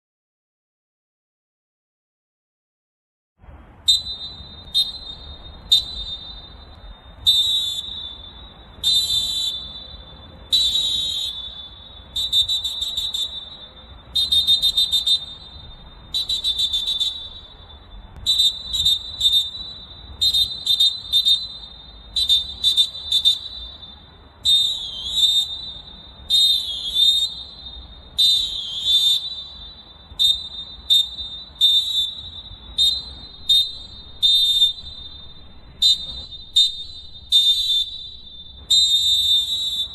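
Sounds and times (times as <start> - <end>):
referee whistle blasts: 3.8 - 39.9.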